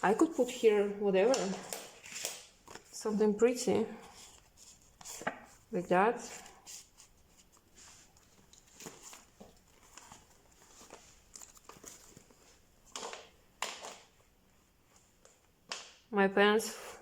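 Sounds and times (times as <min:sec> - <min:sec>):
notebooks rustling and tapping: 0:00.0 - 0:16.1.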